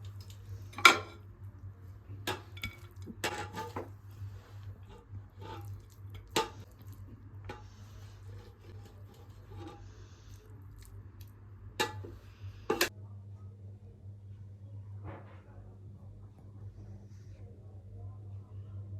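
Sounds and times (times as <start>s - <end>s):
faint low steady hum: 0.0s - 18.9s.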